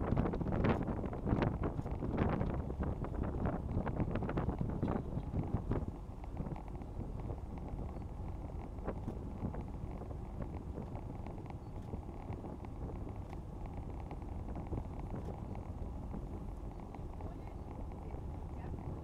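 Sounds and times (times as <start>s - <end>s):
faint ticks: 0.0s - 19.0s
propeller engine drone: 0.0s - 19.0s.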